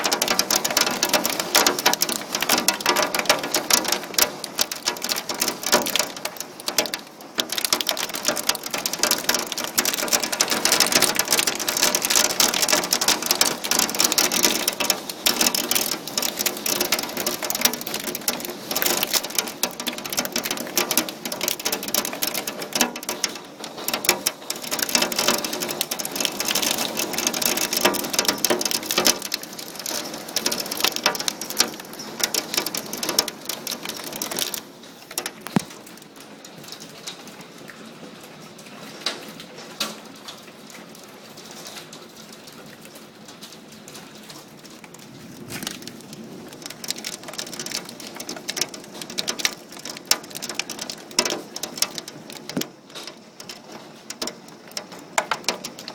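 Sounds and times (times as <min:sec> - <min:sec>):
heavy hail pelting down: 0:00.0 - 0:37.4, 0:39.0 - 0:55.9.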